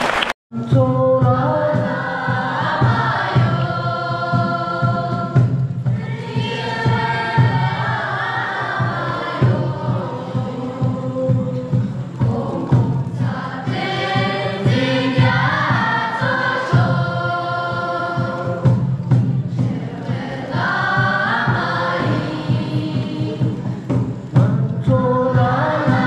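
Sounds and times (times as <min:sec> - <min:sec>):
group singing in chorus: 0:01.0 - 0:26.0.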